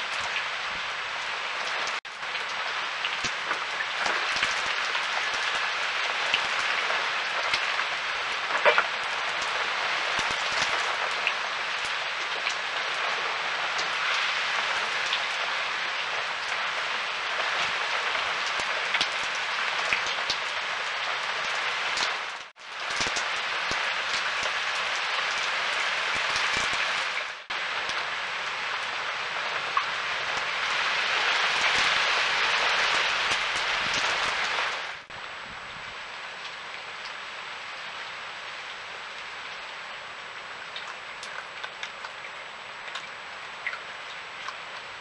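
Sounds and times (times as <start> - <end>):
pouring rain: 0.0 - 45.0.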